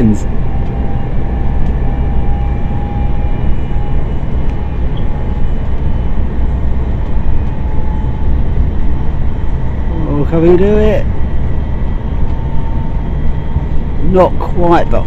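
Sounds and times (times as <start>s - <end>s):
traction motor whine: 0.0s - 15.0s
train rolling rumble: 0.0s - 15.0s.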